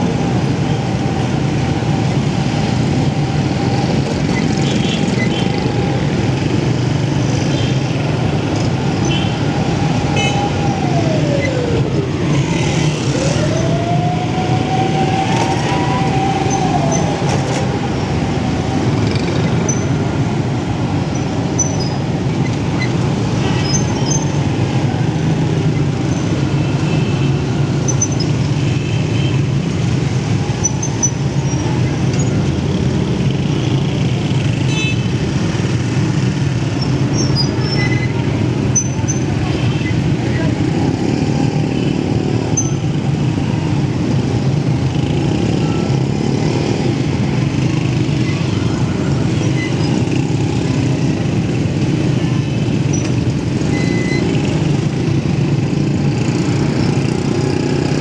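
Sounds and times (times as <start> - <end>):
surrounding traffic: 0.0 - 58.0.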